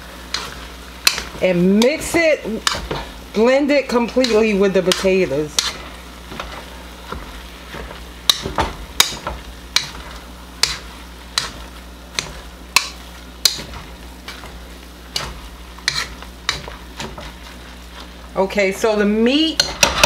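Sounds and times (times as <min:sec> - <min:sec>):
faint sizzle of food cooking: 0:00.0 - 0:20.0
potato masher clacking on pan: 0:00.3 - 0:03.1, 0:03.7 - 0:17.4.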